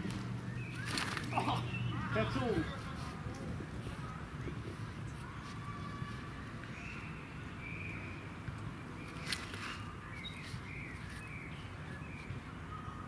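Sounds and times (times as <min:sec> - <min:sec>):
small birds chirping: 0:00.1 - 0:02.8, 0:05.0 - 0:13.0.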